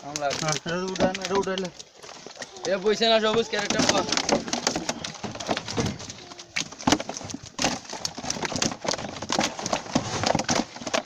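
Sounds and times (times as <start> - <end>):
fish slapping in plastic tub: 0.0 - 11.0.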